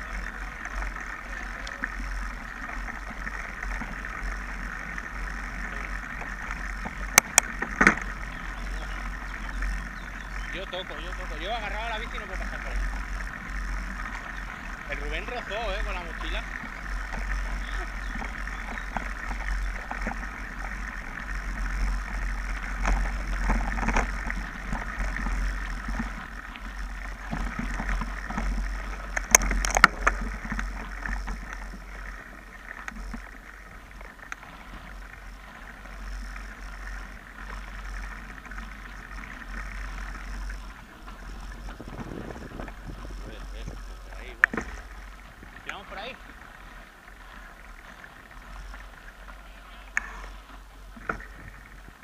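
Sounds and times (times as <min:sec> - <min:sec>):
bike rattling: 0:00.0 - 0:52.0
tyres rolling on loose dirt: 0:00.0 - 0:52.0
wind rumble on microphone: 0:00.0 - 0:52.0.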